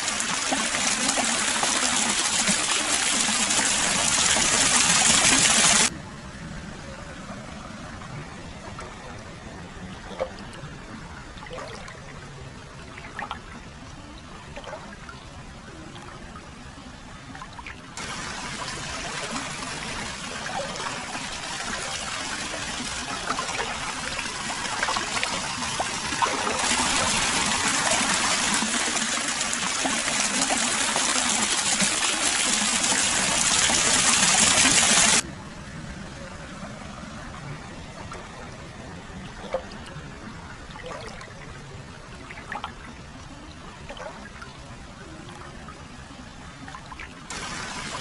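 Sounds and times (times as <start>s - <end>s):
water trickling and splashing: 0.0s - 5.9s, 7.1s - 35.3s, 36.0s - 48.0s.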